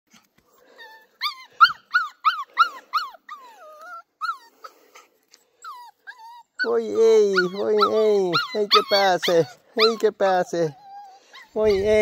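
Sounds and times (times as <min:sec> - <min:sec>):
puppy yelping and whining: 0:00.5 - 0:12.0.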